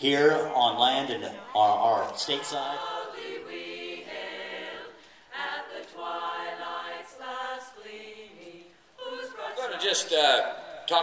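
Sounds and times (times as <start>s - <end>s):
choir singing long notes: 1.5s - 10.4s.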